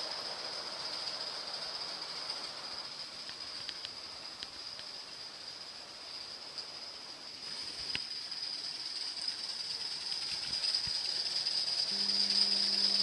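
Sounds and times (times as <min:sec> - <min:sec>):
model locomotive steam hiss: 0:00.0 - 0:13.0.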